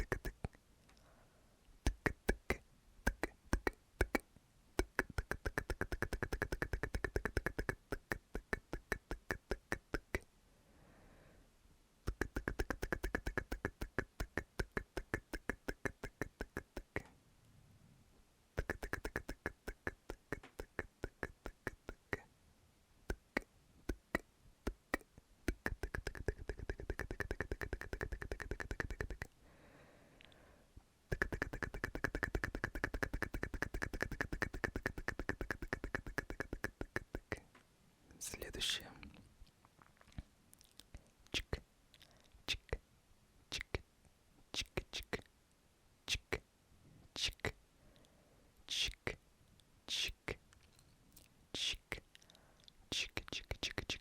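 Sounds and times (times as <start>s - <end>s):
rapid tongue clicks: 0.0s - 1.0s, 1.8s - 10.3s, 12.0s - 17.2s, 18.6s - 22.3s, 23.0s - 29.4s, 30.2s - 30.4s, 31.1s - 37.5s, 38.2s - 42.8s, 43.5s - 43.9s, 44.5s - 45.3s, 46.1s - 46.4s, 47.2s - 54.0s.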